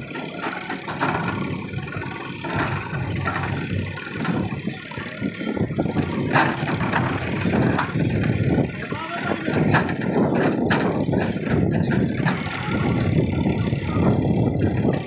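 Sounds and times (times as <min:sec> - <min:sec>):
diesel engine working under load: 0:00.0 - 0:15.0.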